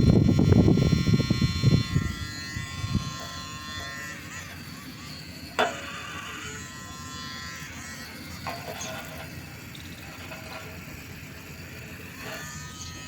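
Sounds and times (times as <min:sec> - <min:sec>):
small electric motor buzzing: 0:00.0 - 0:13.0.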